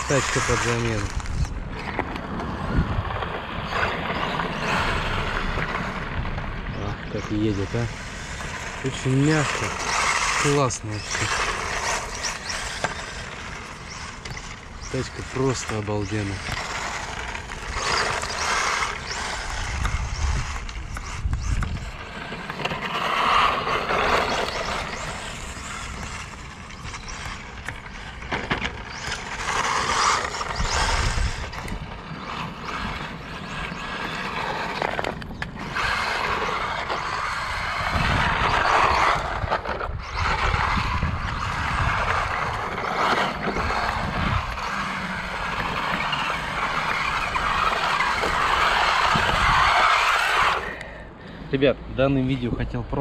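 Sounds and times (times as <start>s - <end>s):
rc car motor: 0.0s - 51.0s
tyres on wet gravel: 0.0s - 51.0s.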